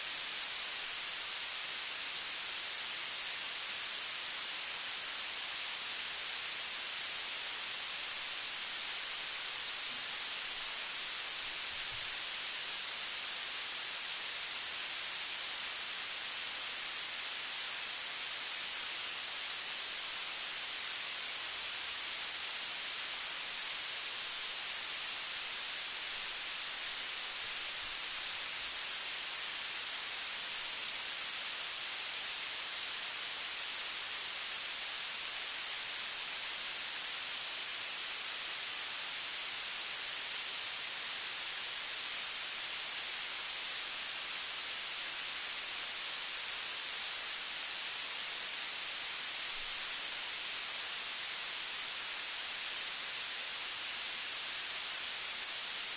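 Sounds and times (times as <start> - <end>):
static hiss: 0.0 - 55.9.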